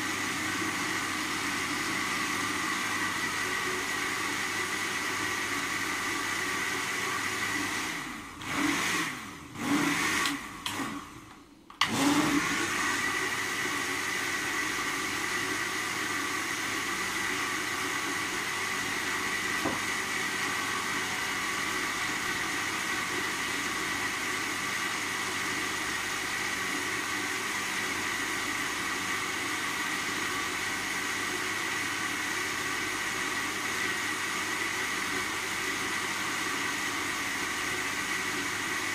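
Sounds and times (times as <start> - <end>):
blender running: 0.0 - 38.9.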